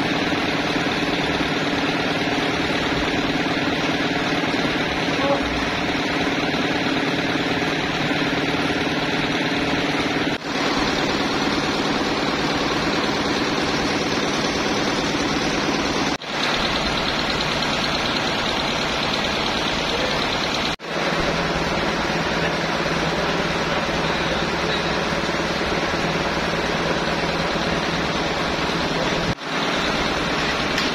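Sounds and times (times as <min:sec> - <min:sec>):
sawmill engine droning: 0:00.0 - 0:30.9.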